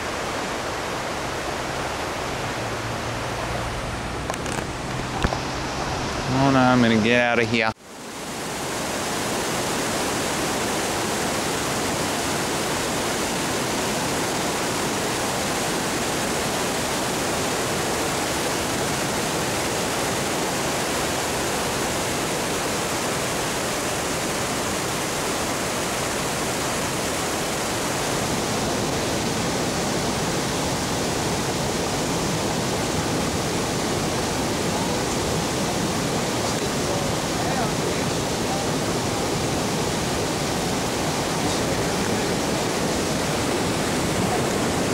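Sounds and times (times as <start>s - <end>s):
floodwater rushing through rapids: 0.0s - 44.9s.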